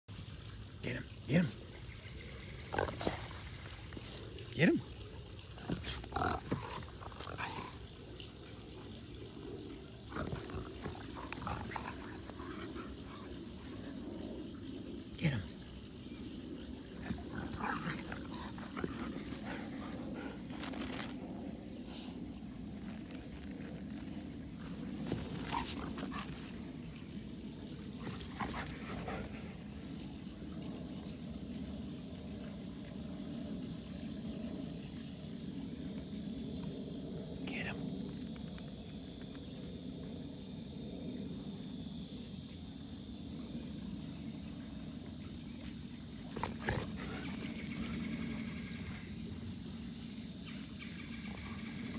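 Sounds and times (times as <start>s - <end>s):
dogs play-fighting and growling: 1.8s - 15.1s, 15.9s - 37.3s, 43.0s - 51.9s.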